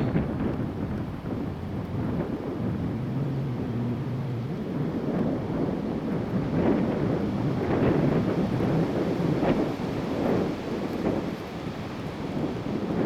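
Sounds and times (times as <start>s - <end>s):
strong gusting wind: 0.0s - 13.0s
wind buffeting microphone: 0.0s - 13.0s.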